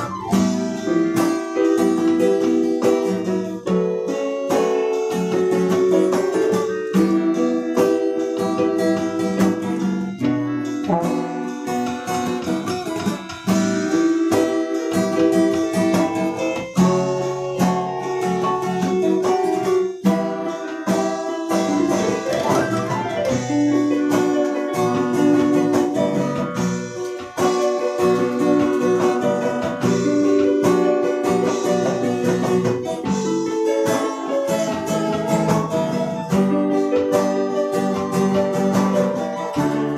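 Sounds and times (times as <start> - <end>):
acoustic guitar strumming: 0.0 - 39.9
electronic keyboard notes: 0.0 - 39.9
short percussive strokes: 4.5 - 39.9.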